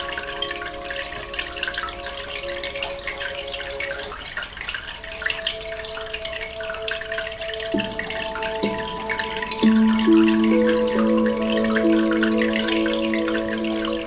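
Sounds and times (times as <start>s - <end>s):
aquarium water bubbling: 0.0s - 14.0s
soft ambient music: 0.0s - 14.0s.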